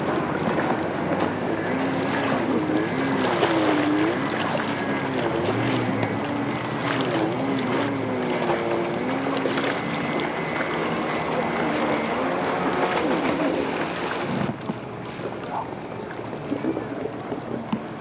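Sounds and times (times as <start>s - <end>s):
jet ski engine: 0.0s - 18.0s
water rushing: 0.0s - 18.0s
wind: 0.0s - 18.0s.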